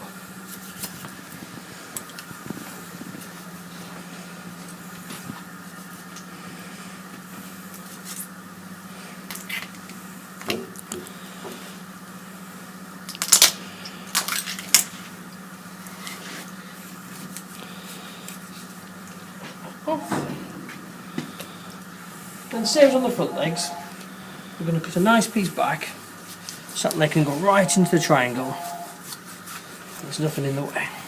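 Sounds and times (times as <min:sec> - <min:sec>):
background hum: 0:00.0 - 0:31.0.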